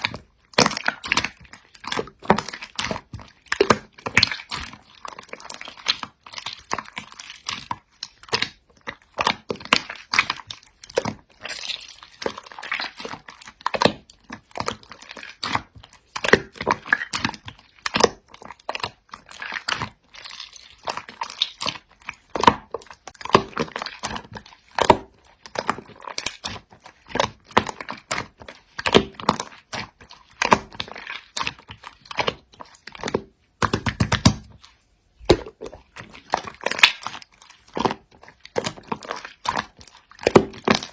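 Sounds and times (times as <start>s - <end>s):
loud slime squelching: 0.0s - 40.9s
slime squishing with sticky clicks: 0.0s - 40.9s.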